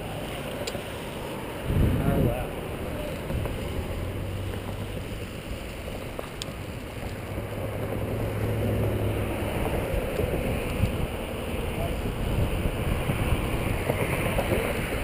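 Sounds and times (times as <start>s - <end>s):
road rumble: 0.0s - 15.0s
wind: 0.0s - 15.0s.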